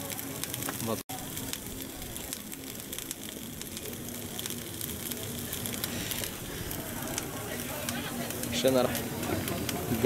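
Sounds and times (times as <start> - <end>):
coal fire crackling: 0.0 - 10.0
steam boiler hissing: 0.0 - 10.0.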